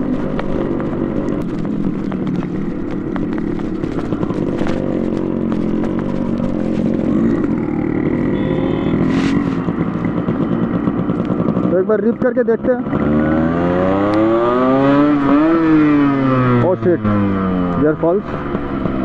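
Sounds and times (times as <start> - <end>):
two-stroke motorcycle engine running: 0.0 - 19.0.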